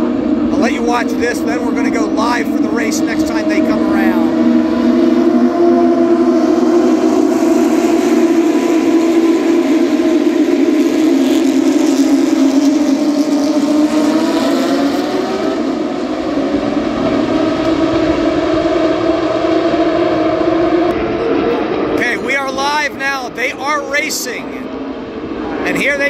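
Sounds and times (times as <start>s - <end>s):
race cars passing: 0.0s - 26.0s.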